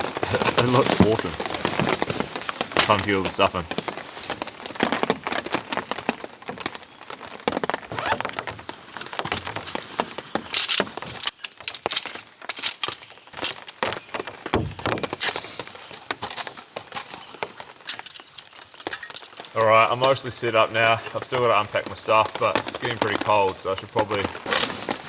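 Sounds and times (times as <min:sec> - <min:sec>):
camping gear clicks and rustles: 0:00.0 - 0:25.0
rain pattering: 0:00.0 - 0:25.0.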